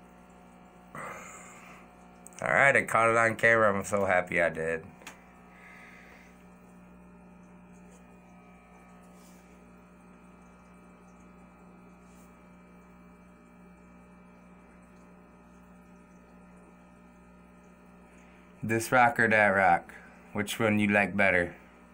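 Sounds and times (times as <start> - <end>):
aquarium filter pump hum: 0.0 - 21.9.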